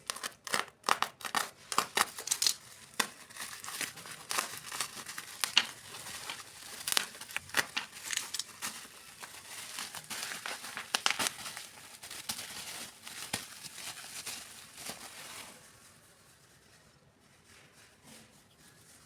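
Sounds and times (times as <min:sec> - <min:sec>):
plastic packaging crinkling: 0:00.0 - 0:16.4.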